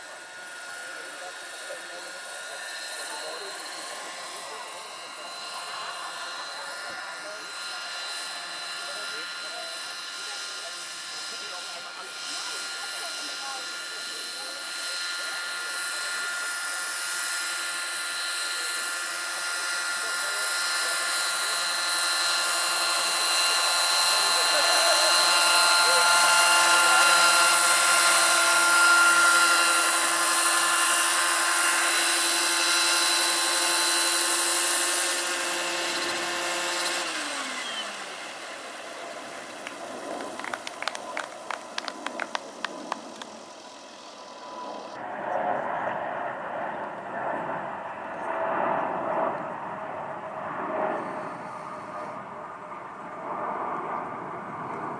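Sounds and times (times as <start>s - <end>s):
model helicopter motor whine: 0.0s - 54.9s.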